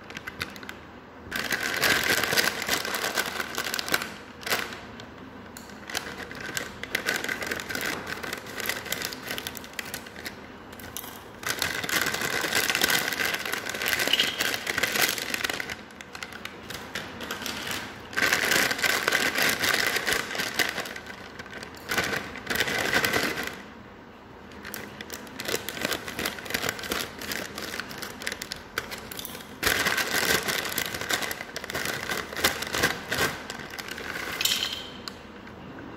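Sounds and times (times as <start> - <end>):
plastic snack packet crinkling: 0.0 - 23.7, 24.5 - 35.2.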